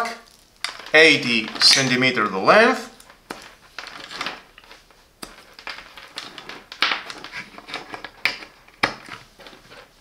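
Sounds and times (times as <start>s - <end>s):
test leads rustling and clicking: 0.6s - 9.9s.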